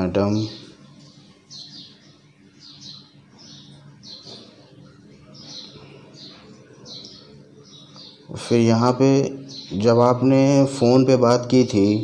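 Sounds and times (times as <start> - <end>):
faint low hum: 0.0 - 12.0
small birds chirping: 0.0 - 12.0.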